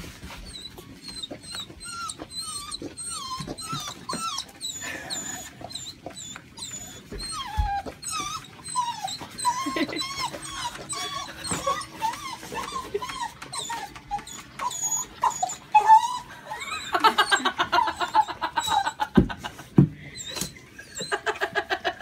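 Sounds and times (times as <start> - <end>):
dog whining and crying: 0.2 - 19.3, 20.1 - 21.5
dog yipping: 0.5 - 19.0.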